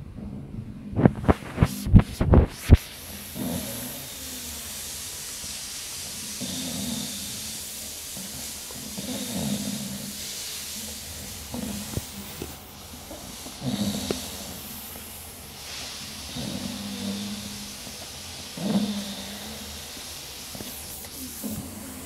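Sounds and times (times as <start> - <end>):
dog snoring: 1.0 - 5.0, 6.2 - 22.0
steady hiss: 1.0 - 22.0.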